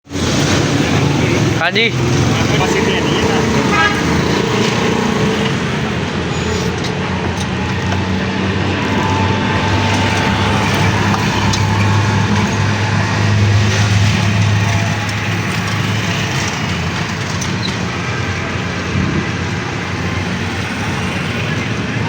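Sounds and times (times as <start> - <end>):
road traffic noise: 0.0 - 22.0
vehicle engine running: 0.1 - 22.0.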